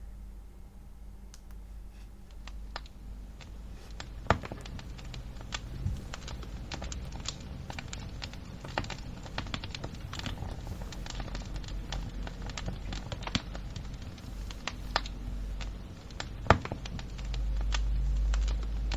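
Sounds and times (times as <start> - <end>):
low steady noise: 0.0 - 18.9
fire crackling: 1.2 - 18.9.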